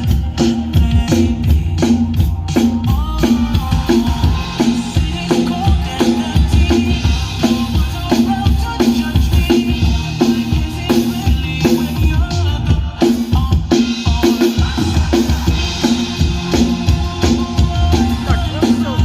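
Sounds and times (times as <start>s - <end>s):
drum kit playing: 0.0s - 19.0s
loud amplified backing music: 0.0s - 19.0s.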